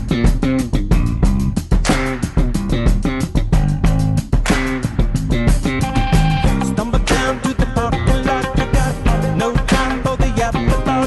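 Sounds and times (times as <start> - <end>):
guitar and bass music: 0.0 - 11.0.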